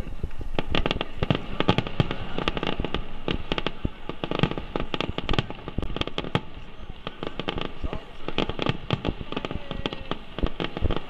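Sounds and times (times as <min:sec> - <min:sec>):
fireworks shells bursting: 0:00.0 - 0:11.0.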